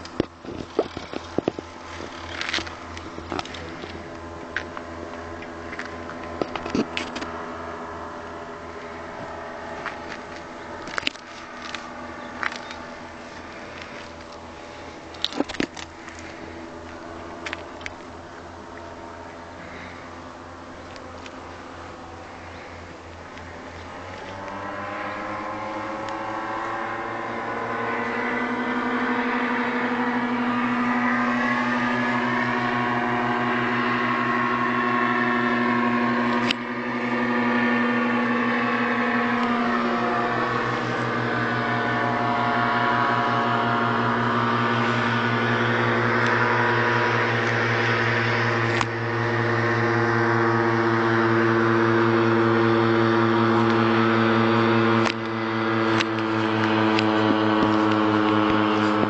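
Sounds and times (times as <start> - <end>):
scooter engine idling: 0.0 - 59.0.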